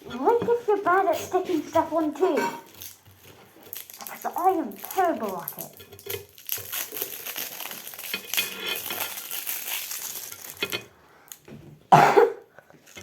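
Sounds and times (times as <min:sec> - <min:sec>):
plastic packaging crinkling: 0:00.2 - 0:11.5, 0:12.7 - 0:13.0.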